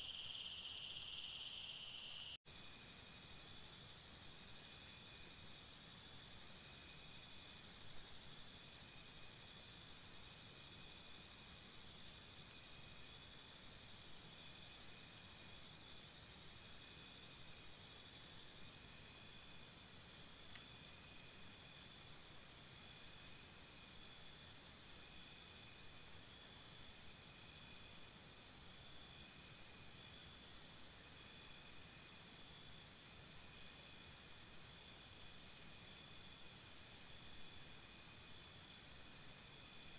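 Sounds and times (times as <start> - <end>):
crickets chirping trill: 0.0 - 39.9
high insect chorus: 0.0 - 39.9.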